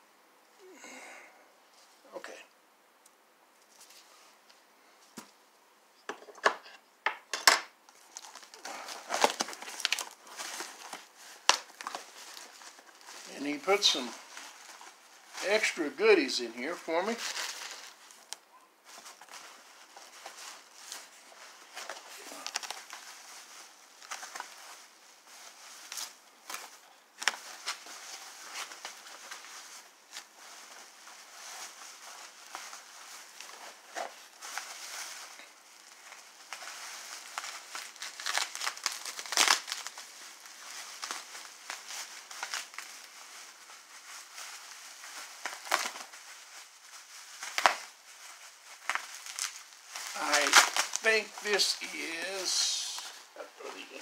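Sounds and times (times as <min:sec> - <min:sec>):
plastic packing material crinkling: 0:07.8 - 0:54.0.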